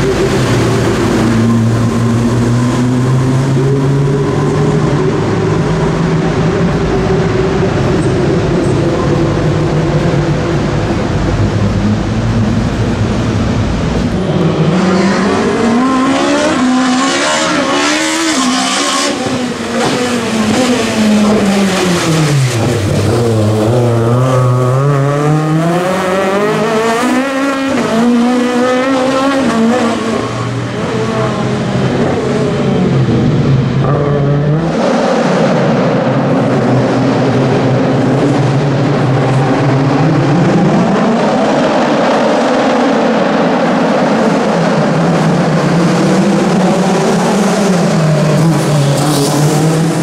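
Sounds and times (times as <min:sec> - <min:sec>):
race car engines revving: 0:00.0 - 0:50.0.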